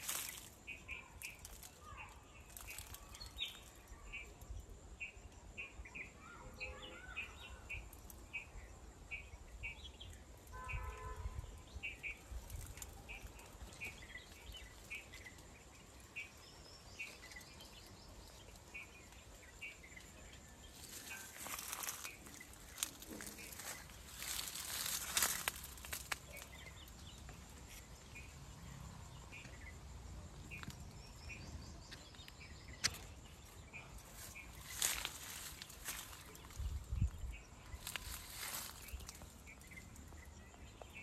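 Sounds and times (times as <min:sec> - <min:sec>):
small bird chirping: 0:00.0 - 0:41.0.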